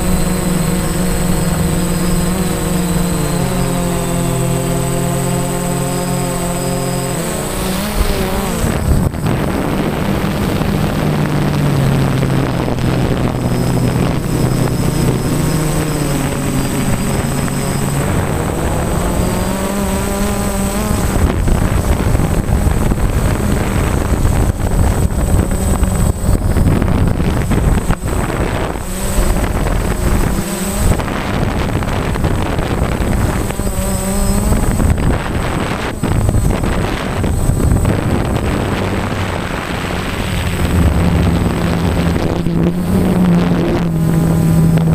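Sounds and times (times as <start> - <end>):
model aircraft motor and propeller: 0.0 - 44.9
steady high whine: 0.0 - 44.9
wind buffeting microphone: 0.0 - 44.9.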